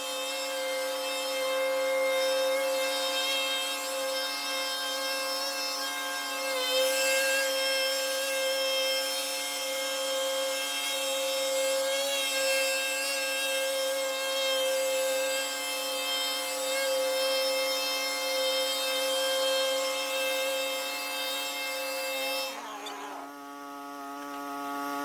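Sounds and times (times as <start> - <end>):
power tool high-pitched whine: 0.0 - 25.0.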